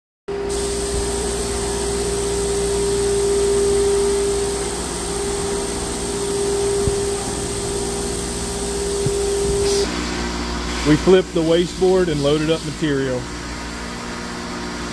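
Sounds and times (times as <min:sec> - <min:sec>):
router machinery humming: 0:00.3 - 0:14.4.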